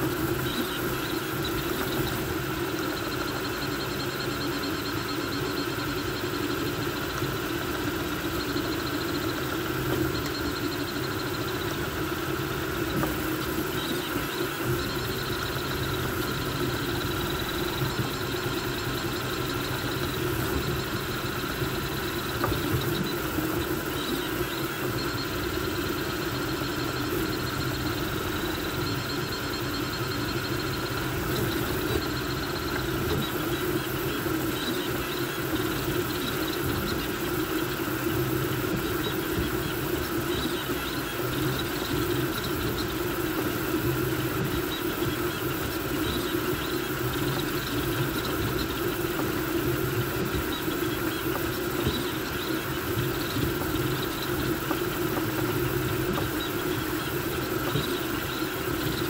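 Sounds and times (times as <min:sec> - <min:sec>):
cooling fans whirring: 0:00.0 - 0:59.0
stepper motor whine: 0:00.0 - 0:59.0.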